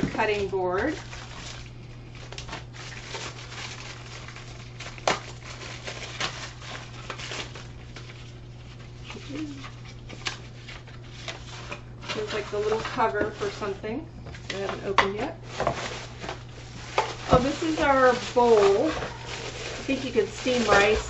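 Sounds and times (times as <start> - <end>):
plastic packaging crinkling: 0.0 - 21.0
steady low hum: 0.0 - 21.0.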